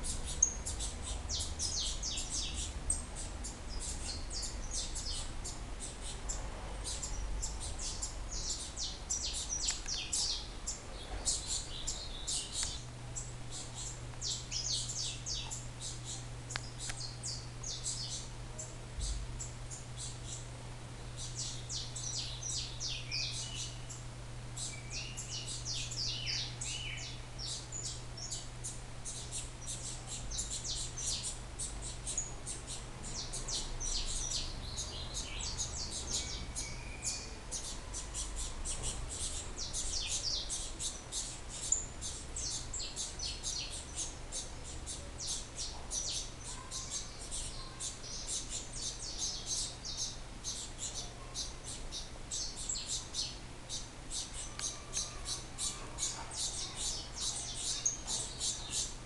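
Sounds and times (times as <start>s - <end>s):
finches chirping: 0.0s - 20.5s, 21.1s - 59.0s.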